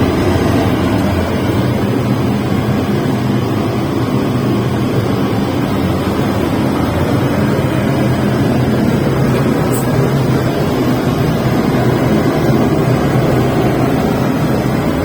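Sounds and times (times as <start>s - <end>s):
industrial burner rushing: 0.0s - 15.0s.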